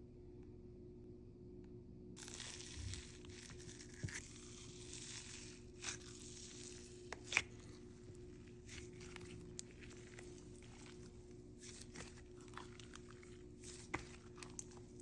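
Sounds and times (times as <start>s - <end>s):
slime crinkling and crunching: 2.2s - 15.0s.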